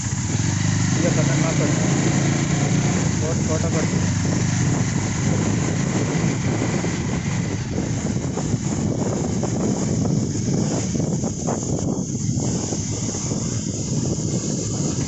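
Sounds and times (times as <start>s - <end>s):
motorcycle engine rumbling: 0.0s - 15.0s
wind buffeting microphone: 0.0s - 15.0s.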